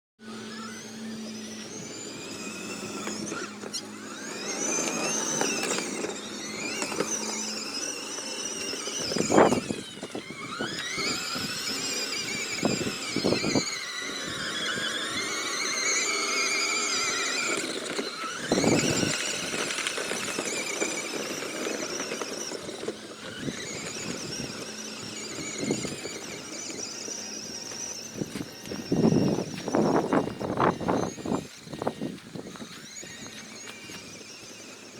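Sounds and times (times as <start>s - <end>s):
electric motor whining: 0.2s - 34.9s.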